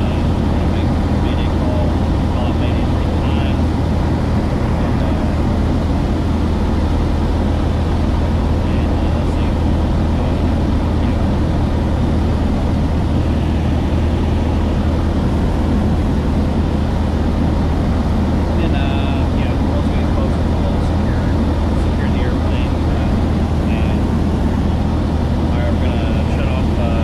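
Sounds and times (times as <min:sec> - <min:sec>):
light aircraft engine droning: 0:00.0 - 0:27.0
rushing wind noise: 0:00.0 - 0:27.0.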